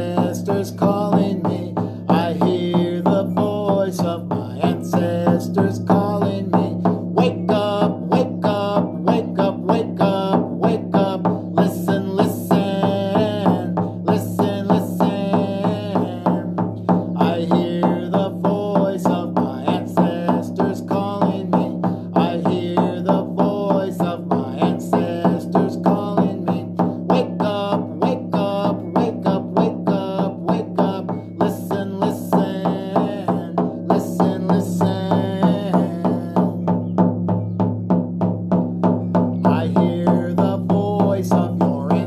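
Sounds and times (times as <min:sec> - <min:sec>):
man singing a chant: 0:00.0 - 0:36.8, 0:39.4 - 0:42.0
hand drum beating: 0:00.0 - 0:42.0.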